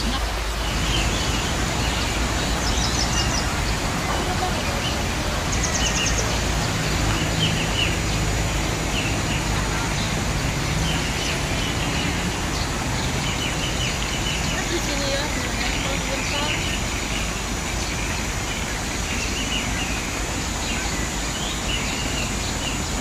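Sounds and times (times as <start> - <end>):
small birds chirping and trilling: 0.0 - 23.0.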